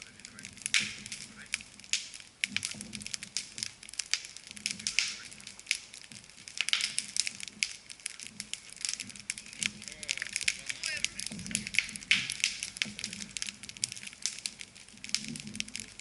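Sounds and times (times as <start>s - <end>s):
campfire crackling: 0.0s - 16.0s
fire popping and snapping: 0.0s - 16.0s.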